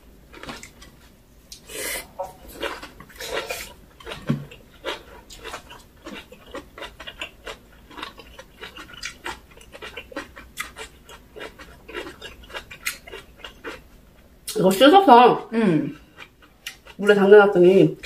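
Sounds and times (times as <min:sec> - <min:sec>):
close chewing mouth sounds: 0:00.3 - 0:14.6, 0:15.4 - 0:17.2.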